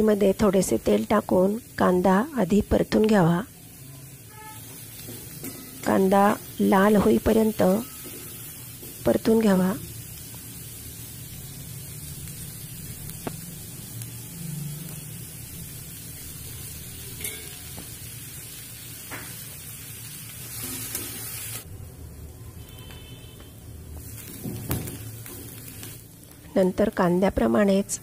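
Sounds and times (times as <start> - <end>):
onions sizzling in oil: 0.0 - 28.0.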